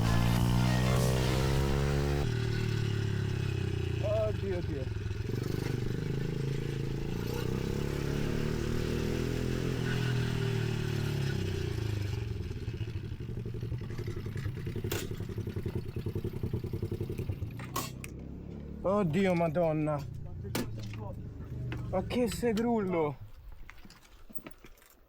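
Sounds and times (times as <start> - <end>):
pit bike engine running: 0.0 - 22.7.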